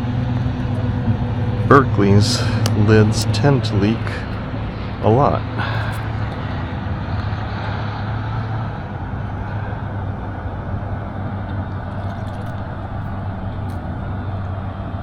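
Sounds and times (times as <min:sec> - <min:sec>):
low mechanical hum: 0:00.0 - 0:15.0
noisy rumble: 0:00.0 - 0:15.0.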